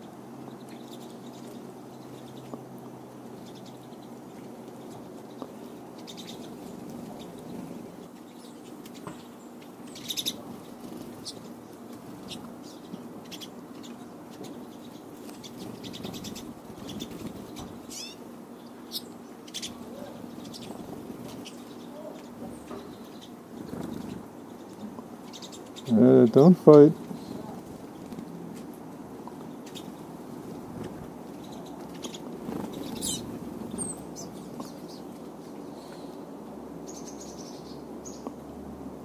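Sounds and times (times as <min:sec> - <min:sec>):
birds chirping and clicking: 0:00.0 - 0:36.2, 0:36.8 - 0:38.5
low background hum: 0:00.0 - 0:39.0.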